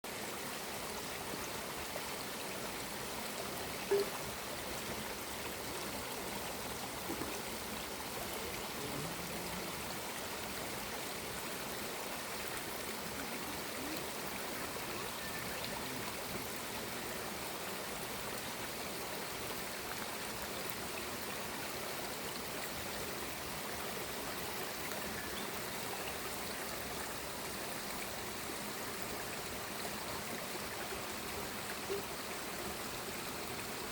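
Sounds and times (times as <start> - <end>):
stream running: 0.0 - 33.9.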